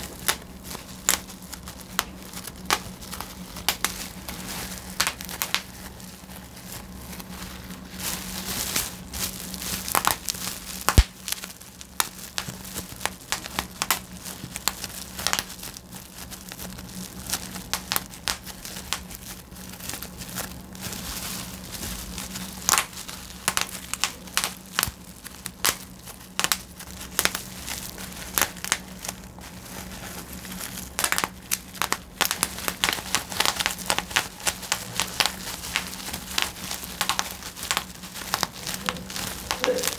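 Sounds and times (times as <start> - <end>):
bubble wrap popping: 0.0 - 39.9
plastic sheet crinkling: 0.0 - 39.9.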